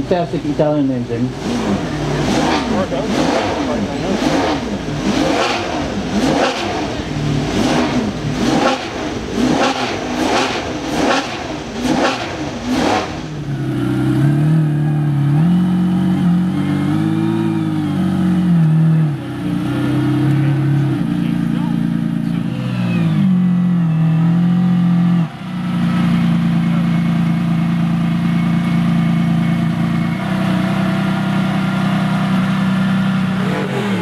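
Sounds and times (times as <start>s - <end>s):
engine running at low revs: 0.0s - 34.0s
engine revving sharply: 1.3s - 25.3s, 30.2s - 34.0s.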